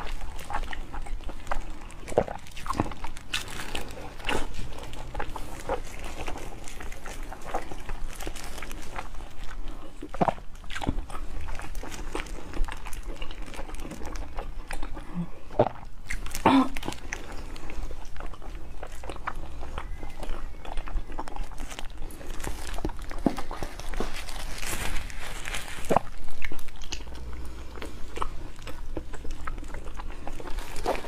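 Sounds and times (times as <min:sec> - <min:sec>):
person biting and chewing food: 0:00.0 - 0:31.0.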